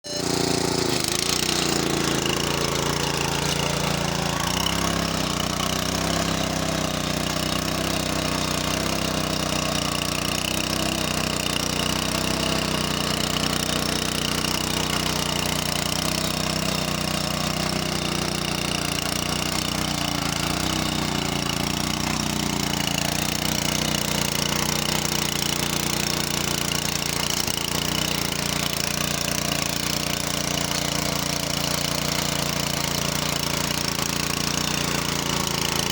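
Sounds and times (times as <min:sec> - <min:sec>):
farm machine engine running: 0:00.0 - 0:35.9.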